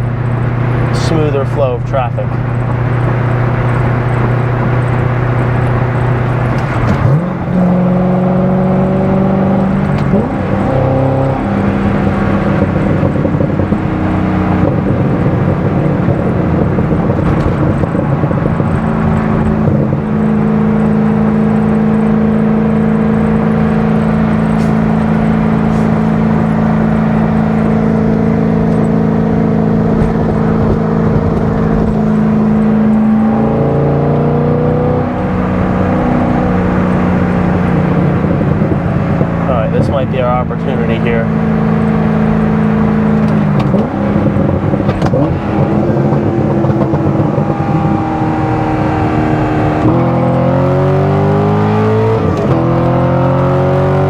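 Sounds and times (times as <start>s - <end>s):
car engine drone: 0.0s - 54.0s
tyre and road noise: 0.0s - 54.0s.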